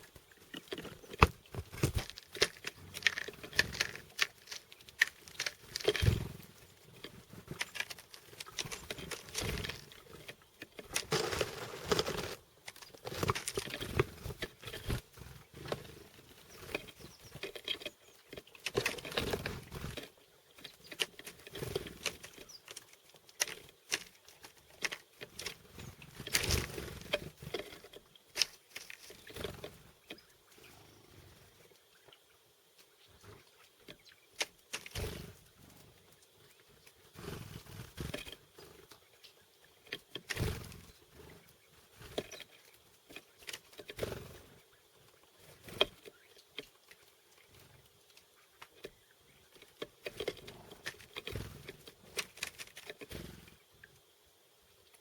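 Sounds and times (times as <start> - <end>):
birds pecking at seeds: 0.0 - 55.0.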